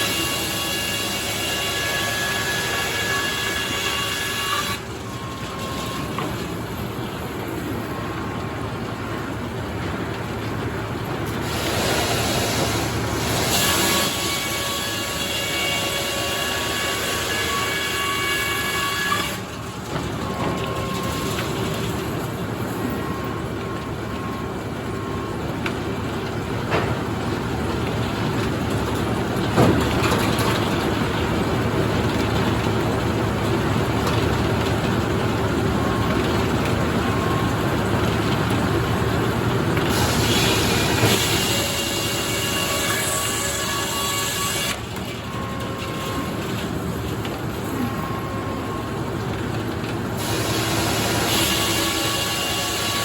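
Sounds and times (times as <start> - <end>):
sawmill machine whining: 0.0 - 53.0.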